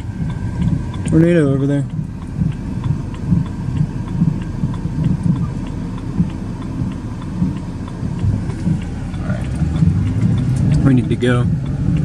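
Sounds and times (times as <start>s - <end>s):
faint ticks: 0.0s - 12.0s
vehicle engine idling: 0.0s - 12.0s.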